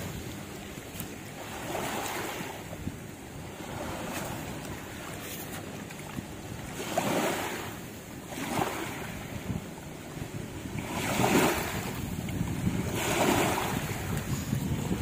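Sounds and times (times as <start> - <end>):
small waves washing on sand: 0.0 - 15.0
wind on microphone: 0.0 - 15.0.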